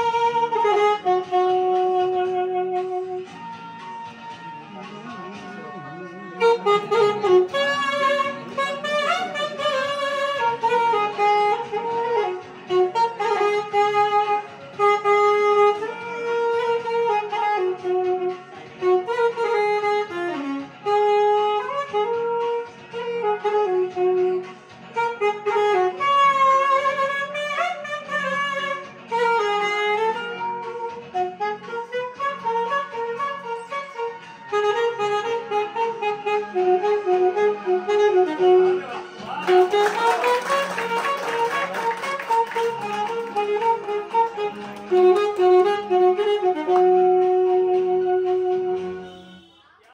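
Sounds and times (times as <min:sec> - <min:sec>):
saxophone solo melody: 0:00.0 - 0:49.9.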